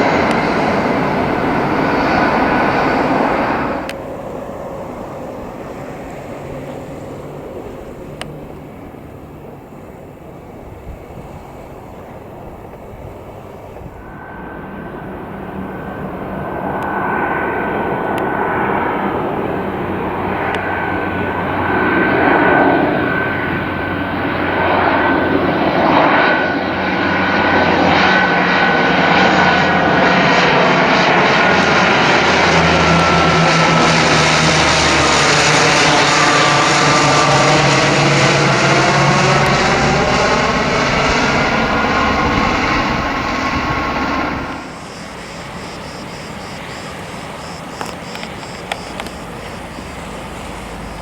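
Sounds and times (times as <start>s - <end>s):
airliner flying low overhead: 0.0s - 51.0s
high engine whine: 0.0s - 51.0s.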